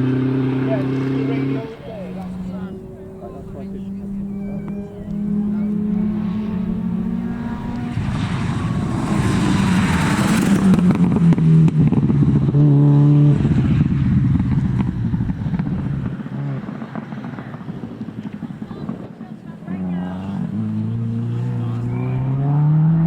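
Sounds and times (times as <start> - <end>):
rally car passing at speed: 0.0 - 23.0.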